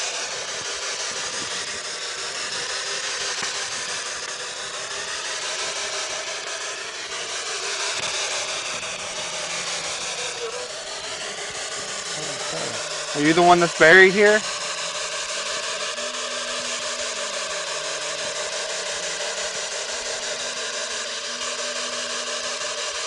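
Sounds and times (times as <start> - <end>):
loud static hiss: 0.0 - 23.0.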